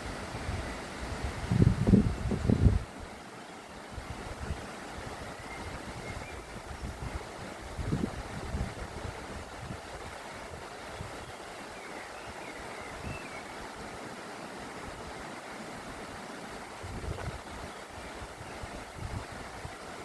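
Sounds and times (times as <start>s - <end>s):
mountain torrent rushing: 0.0s - 20.0s.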